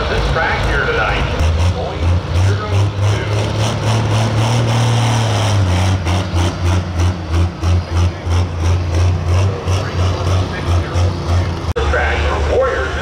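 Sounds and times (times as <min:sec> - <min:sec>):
diesel engine pulsing drone: 0:00.0 - 0:13.0.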